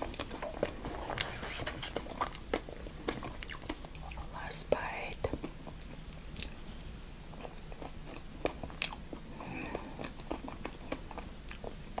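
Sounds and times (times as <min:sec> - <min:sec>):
chewing with wet mouth clicks: 0:00.0 - 0:04.3, 0:05.1 - 0:12.0.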